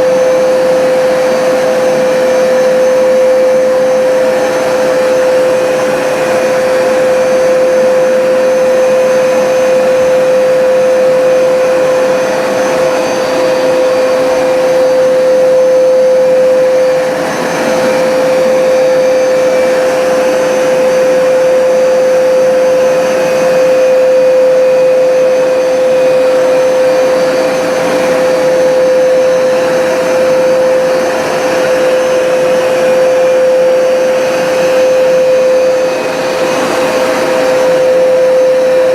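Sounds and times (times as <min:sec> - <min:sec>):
carpet cleaner motor whine: 0:00.0 - 0:38.9.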